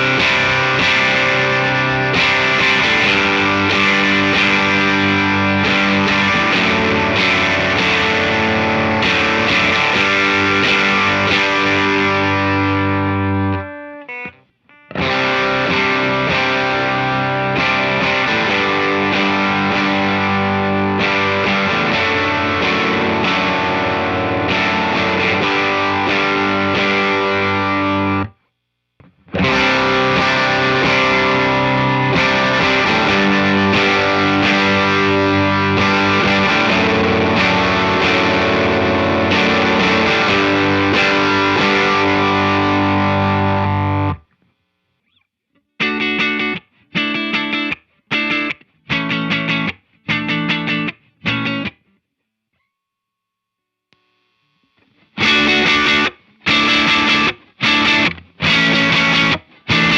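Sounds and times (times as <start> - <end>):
distorted electric guitar riffs: 0.0 - 28.4, 29.0 - 51.9, 54.0 - 59.9.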